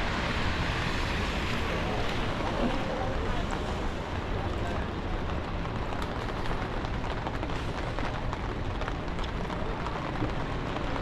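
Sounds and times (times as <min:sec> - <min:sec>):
hiss of rain: 0:00.0 - 0:11.0
wet traffic: 0:00.0 - 0:11.0.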